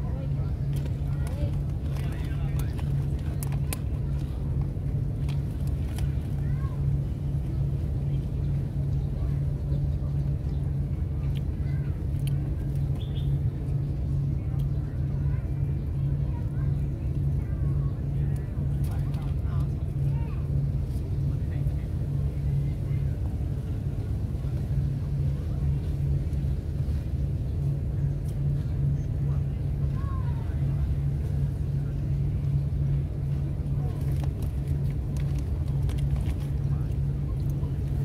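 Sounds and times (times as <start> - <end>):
engine rumble with pulsing hum: 0.0 - 38.0
faint voices: 0.0 - 38.0.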